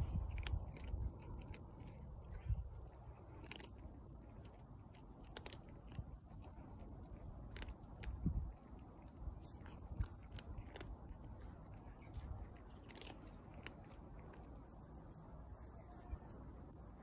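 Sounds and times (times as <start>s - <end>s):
cat crunching dry kibble: 0.0s - 17.0s.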